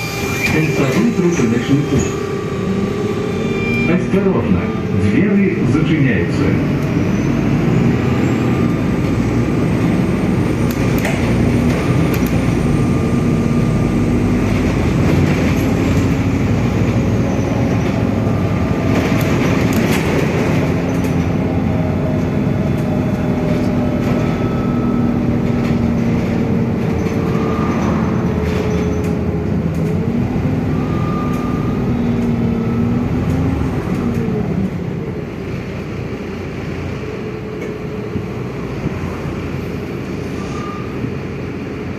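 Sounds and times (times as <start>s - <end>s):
bus engine and road rumble: 0.0s - 41.9s
whining drivetrain: 0.0s - 41.9s.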